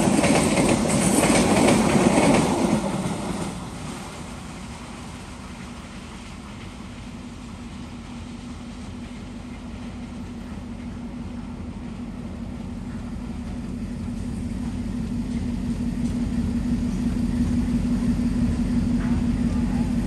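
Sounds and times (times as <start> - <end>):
diesel locomotive humming: 0.0 - 20.0.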